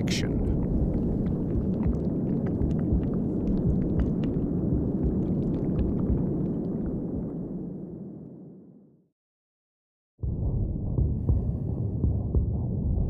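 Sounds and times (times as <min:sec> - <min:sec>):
low steady rumbling: 0:00.0 - 0:08.7, 0:10.2 - 0:13.0.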